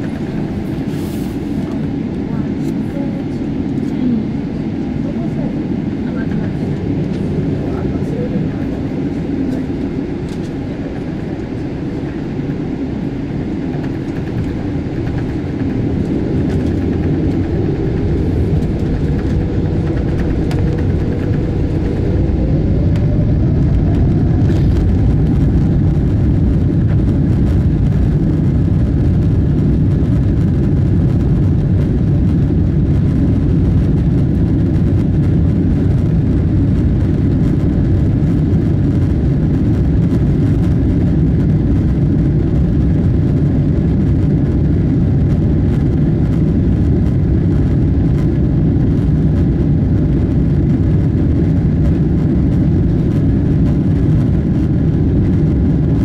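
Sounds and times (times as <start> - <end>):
jet engine whine rising: 0.0 - 56.0
jet engines rumbling: 0.0 - 56.0.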